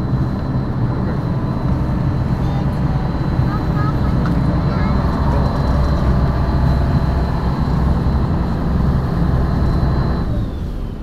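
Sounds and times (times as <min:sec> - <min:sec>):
boat engine rumbling: 0:00.0 - 0:11.0
high engine whine: 0:00.0 - 0:11.0.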